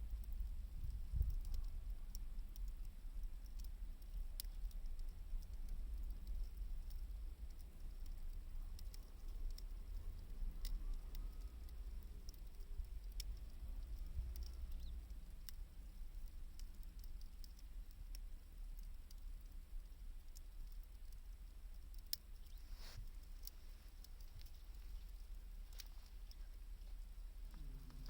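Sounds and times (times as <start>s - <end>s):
low steady rumble: 0.0s - 28.0s
wood fire crackling: 0.0s - 28.0s.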